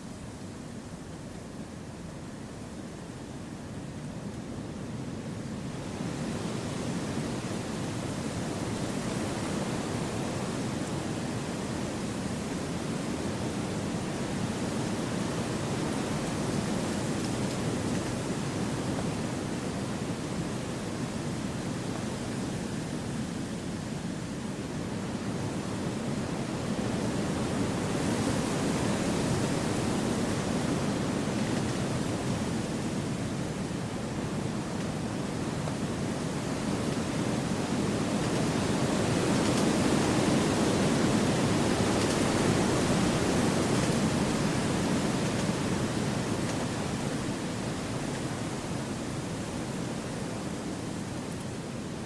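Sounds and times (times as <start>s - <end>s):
wind rushing through trees: 0.0s - 52.0s.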